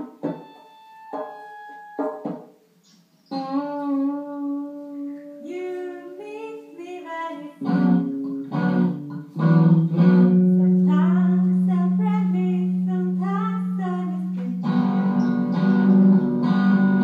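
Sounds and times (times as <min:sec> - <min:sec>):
plucked notes through amplifier: 0:00.0 - 0:17.0.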